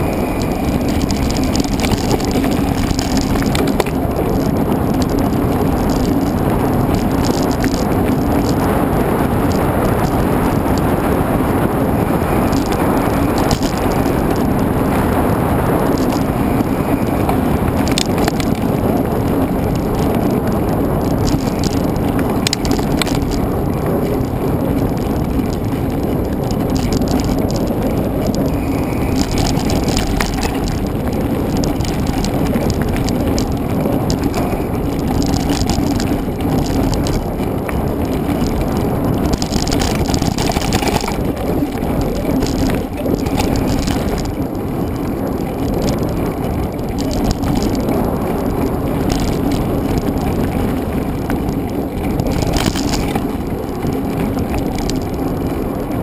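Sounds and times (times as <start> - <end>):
bike rattling: 0.0 - 56.0
bike tyres rumbling on ground: 0.0 - 56.0.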